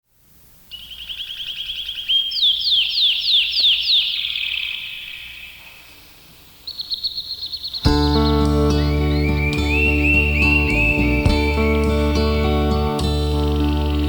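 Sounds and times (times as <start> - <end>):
songbird singing: 0.7 - 14.0.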